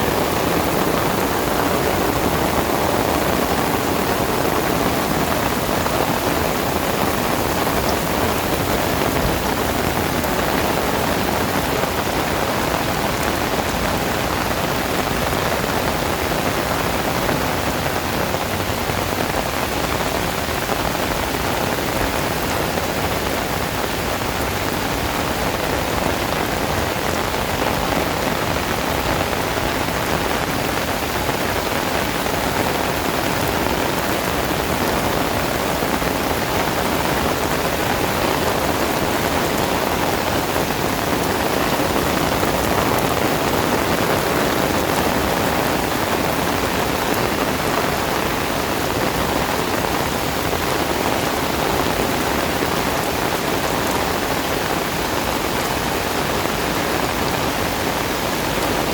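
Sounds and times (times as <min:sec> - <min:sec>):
heavy rain on hard surfaces: 0:00.0 - 0:58.9.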